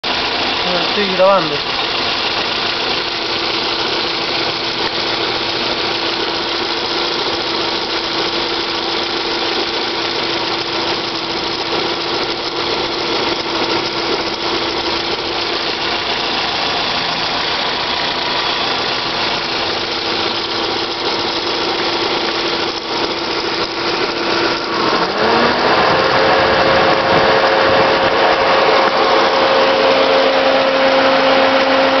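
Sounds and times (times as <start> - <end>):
car engine whining: 0.0 - 32.0
strange belt noise: 0.0 - 32.0.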